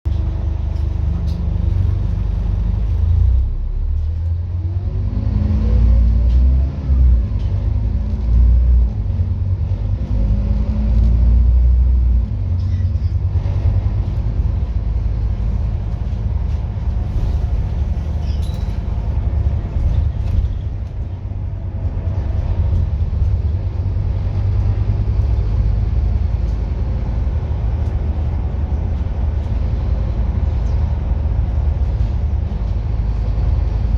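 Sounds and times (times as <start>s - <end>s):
bus diesel engine pulling away: 0.1s - 33.9s.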